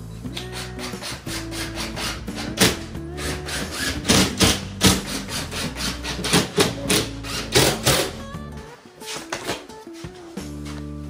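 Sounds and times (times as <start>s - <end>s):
background music with drum hits: 0.0s - 11.0s.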